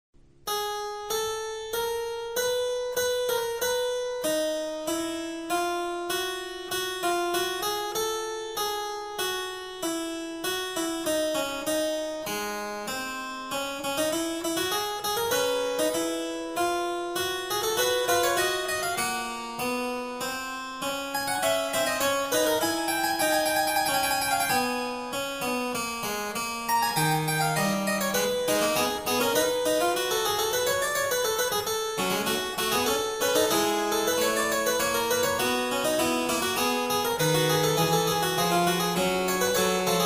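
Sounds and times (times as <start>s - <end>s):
keyboard melody: 0.6s - 40.0s.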